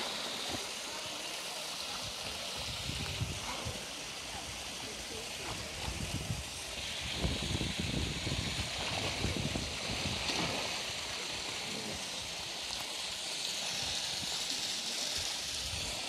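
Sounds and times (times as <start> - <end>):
running water rush: 0.0 - 16.0
water splashing and churning: 0.0 - 16.0.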